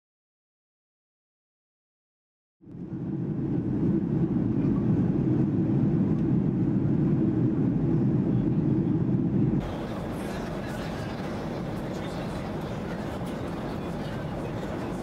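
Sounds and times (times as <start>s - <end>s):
jet engine drone in cabin: 2.6s - 15.0s.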